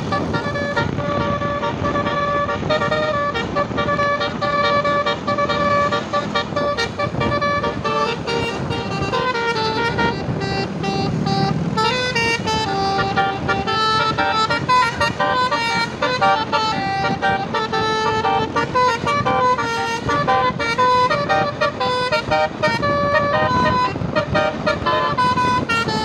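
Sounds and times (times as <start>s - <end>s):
bus horn melody: 0.0s - 26.0s.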